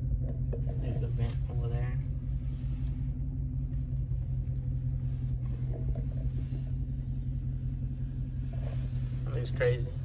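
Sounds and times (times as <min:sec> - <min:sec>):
car engine idling with low rumble: 0:00.0 - 0:10.0.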